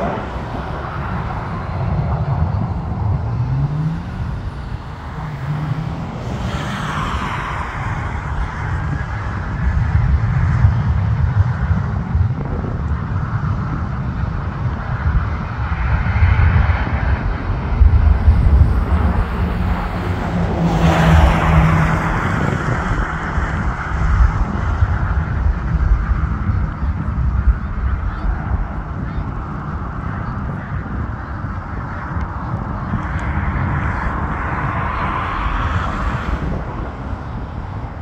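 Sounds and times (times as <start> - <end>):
jet engines roaring at takeoff: 0.0 - 38.0.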